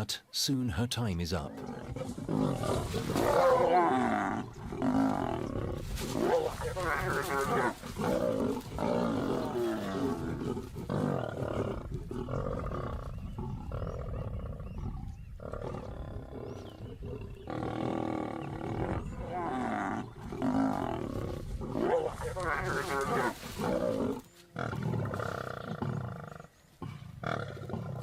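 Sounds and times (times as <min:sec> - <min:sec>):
lions snarling and roaring: 0:01.5 - 0:28.0.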